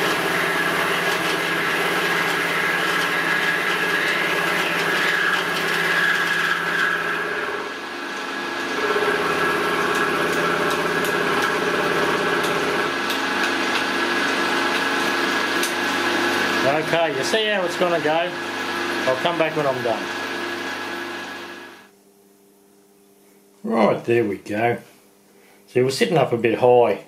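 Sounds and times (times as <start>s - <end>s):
milling machine whine: 0.0s - 21.9s.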